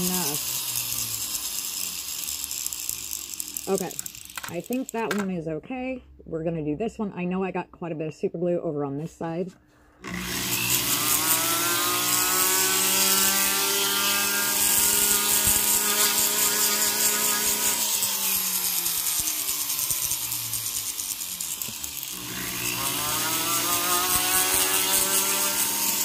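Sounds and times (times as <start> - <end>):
rotary tool whining: 0.0 - 5.3, 10.0 - 26.0.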